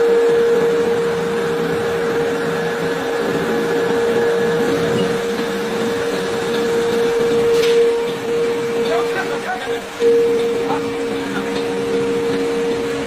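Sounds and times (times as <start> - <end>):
machine drone with high whine: 0.0 - 13.0.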